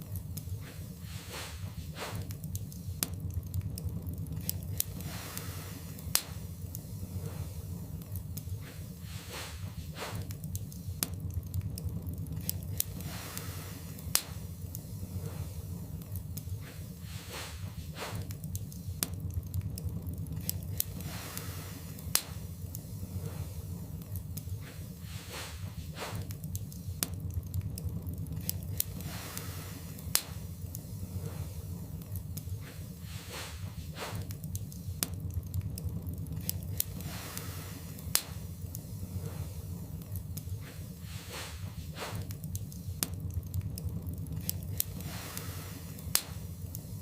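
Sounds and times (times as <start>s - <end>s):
low rumble of flames: 0.0s - 47.0s
wood fire crackling: 0.0s - 47.0s.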